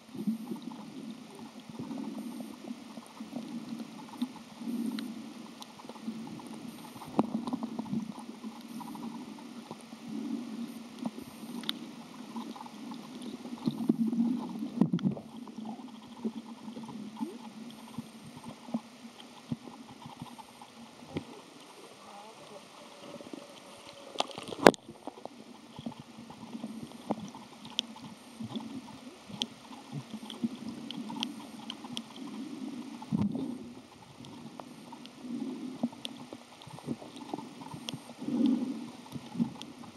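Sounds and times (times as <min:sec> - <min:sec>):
muffled underwater water sloshing: 0:00.0 - 0:39.9.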